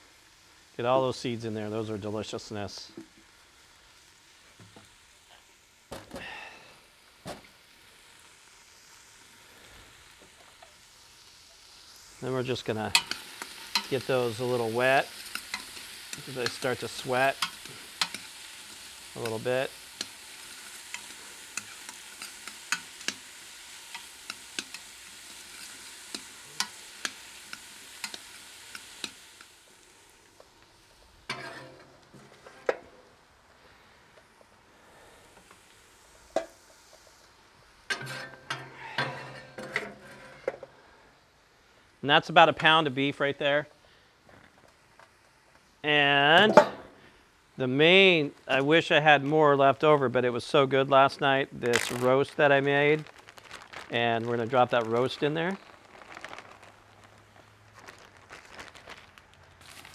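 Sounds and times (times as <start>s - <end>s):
vegetables sizzling in oil: 0.0s - 43.6s, 44.7s - 59.9s.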